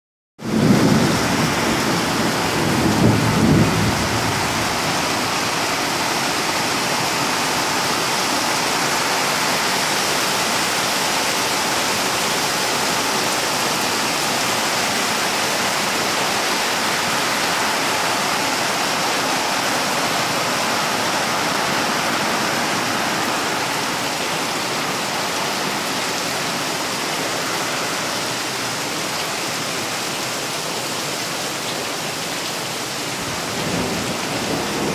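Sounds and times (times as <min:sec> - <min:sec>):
heavy rain falling: 0:00.4 - 0:34.9.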